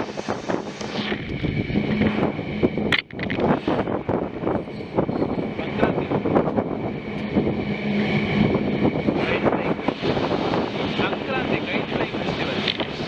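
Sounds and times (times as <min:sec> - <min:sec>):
train rumbling: 0:00.0 - 0:13.0
wind noise: 0:00.0 - 0:13.0.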